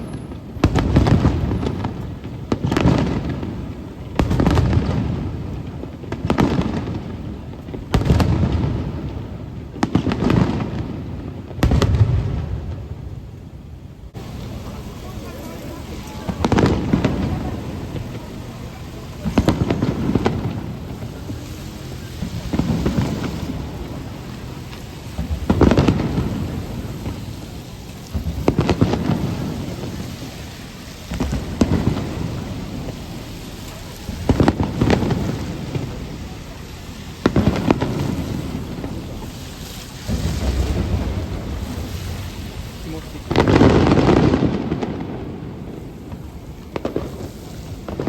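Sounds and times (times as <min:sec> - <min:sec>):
firework shells booming: 0:00.0 - 0:48.0
rain hissing: 0:00.0 - 0:48.0.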